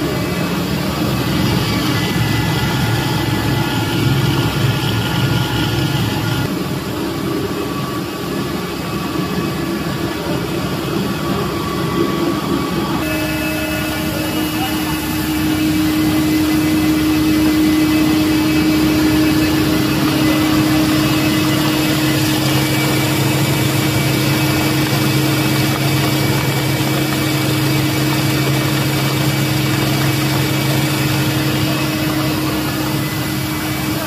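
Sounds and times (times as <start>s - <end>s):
milling machinery hum: 0.0s - 34.0s.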